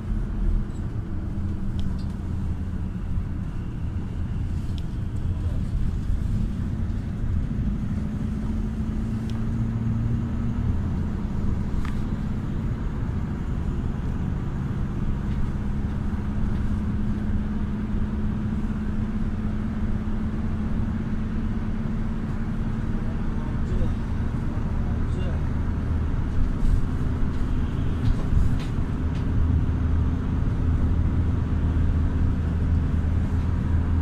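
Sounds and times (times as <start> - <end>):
minibus engine and road noise: 0.0 - 34.0.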